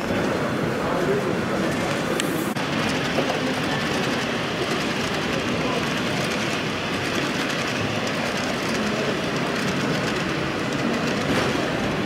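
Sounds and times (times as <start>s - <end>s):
passenger train rolling: 0.0s - 12.0s.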